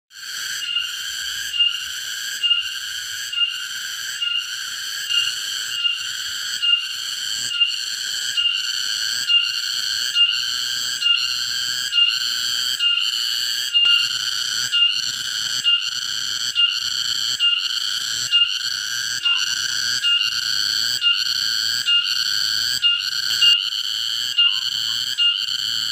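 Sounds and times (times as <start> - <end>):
cicada singing: 0.1 - 25.9.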